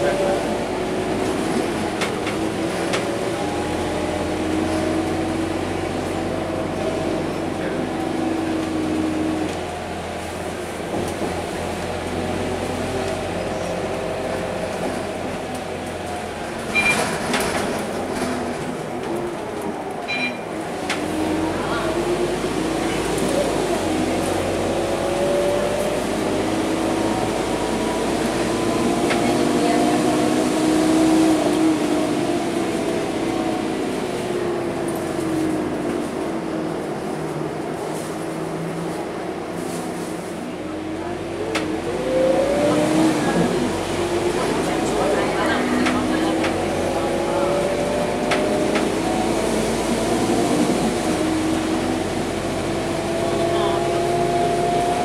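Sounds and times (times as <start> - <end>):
bus engine hum and whine: 0.0 - 55.0
road noise: 0.0 - 55.0.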